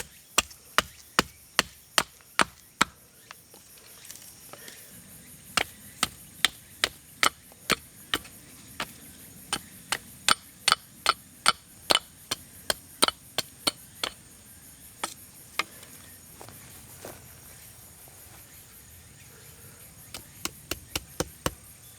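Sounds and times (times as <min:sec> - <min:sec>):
high insect chorus: 0:00.0 - 0:21.9.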